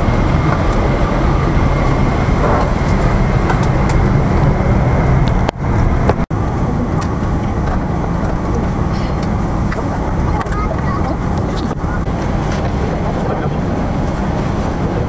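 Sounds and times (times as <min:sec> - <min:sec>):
airliner cabin rumble and hiss: 0:00.0 - 0:15.0.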